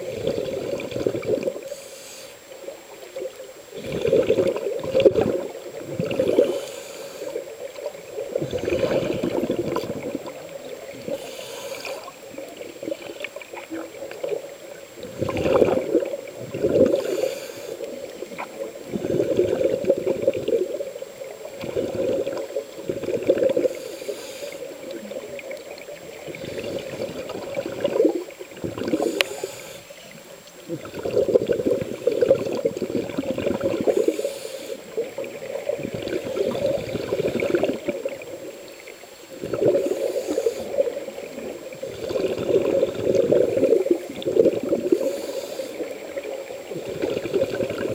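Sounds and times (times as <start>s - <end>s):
regulator bubbles gurgling underwater: 0.0s - 47.9s.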